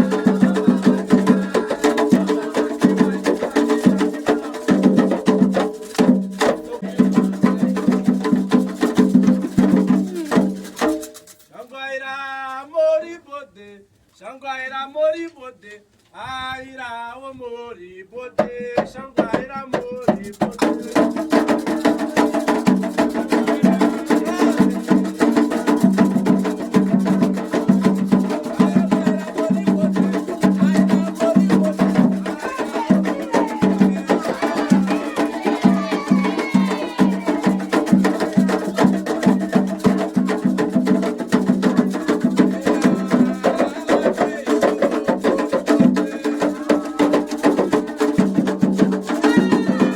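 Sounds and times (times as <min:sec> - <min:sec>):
voices singing: 0:00.0 - 0:10.9, 0:20.6 - 0:49.9
hand drums playing: 0:00.0 - 0:11.4, 0:18.4 - 0:49.9.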